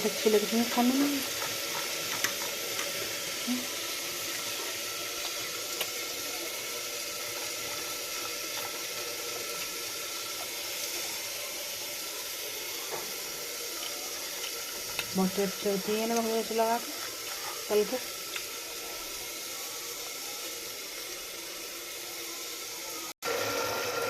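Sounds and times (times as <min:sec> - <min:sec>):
sauce sizzling in a frying pan: 0:00.0 - 0:24.0.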